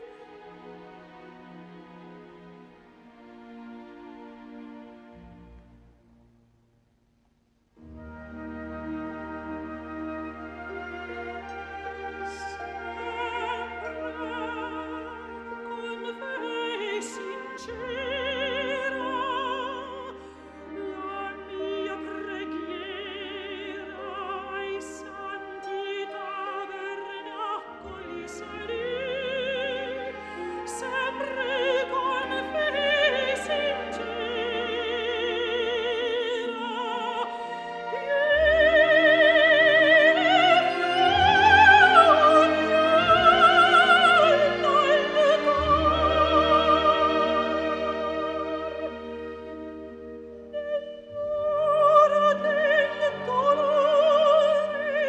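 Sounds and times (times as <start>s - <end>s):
operatic singing with orchestra: 7.9s - 55.0s.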